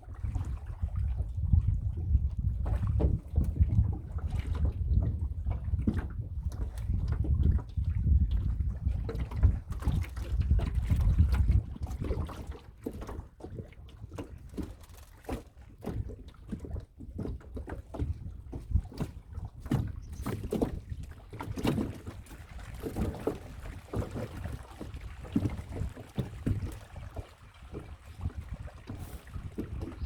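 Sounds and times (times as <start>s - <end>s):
water splashing around boat: 0.0s - 30.0s.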